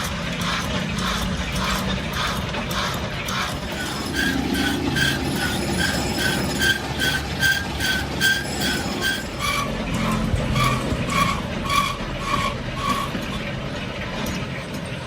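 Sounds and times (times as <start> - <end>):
machine tool squealing on metal: 0.4 - 13.6.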